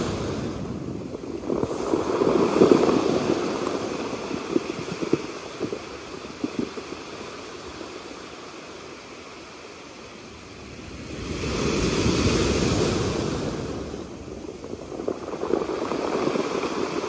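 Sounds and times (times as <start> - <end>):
small waves washing over stones: 0.0 - 9.0, 11.1 - 17.0.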